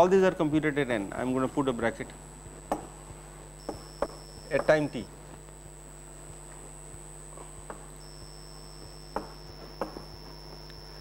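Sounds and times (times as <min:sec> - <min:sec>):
room hum: 0:00.0 - 0:11.0
thin high whine: 0:00.0 - 0:11.0.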